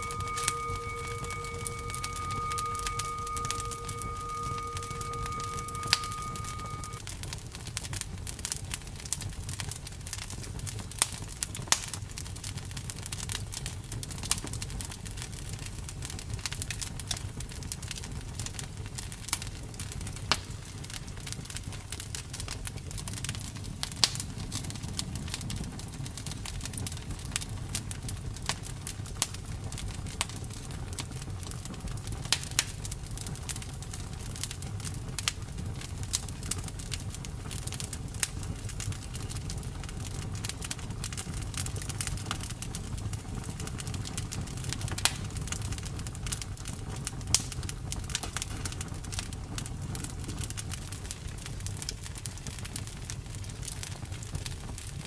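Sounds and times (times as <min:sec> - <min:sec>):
campfire wood crackling and popping: 0:06.8 - 0:55.0.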